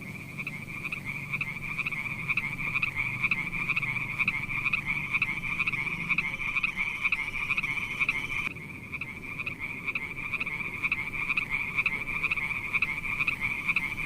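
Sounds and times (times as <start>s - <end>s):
frogs croaking in chorus: 0.0s - 14.0s.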